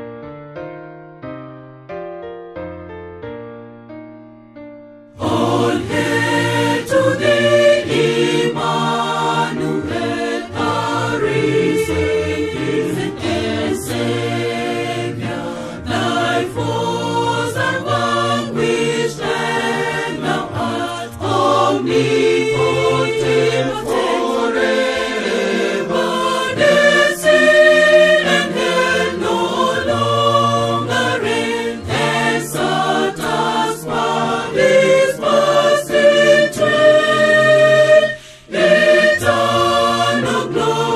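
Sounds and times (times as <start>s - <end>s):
choir singing a hymn: 5.2s - 40.9s.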